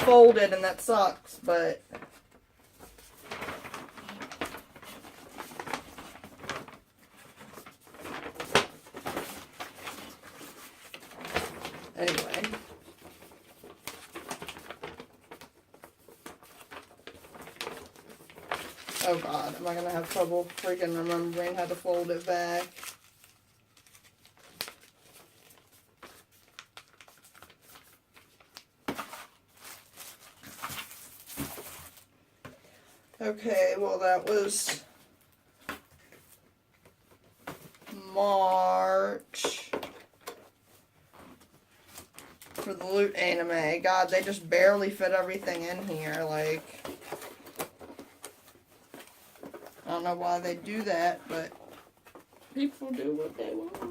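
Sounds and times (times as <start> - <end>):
sharp paper crackle: 0.0 - 32.1, 35.6 - 53.9
paper poster rustling: 0.0 - 53.9.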